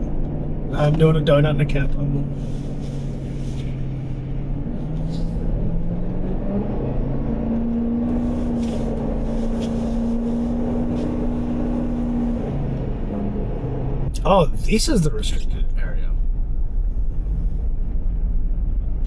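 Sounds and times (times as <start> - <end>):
truck engine revving: 0.0 - 18.6.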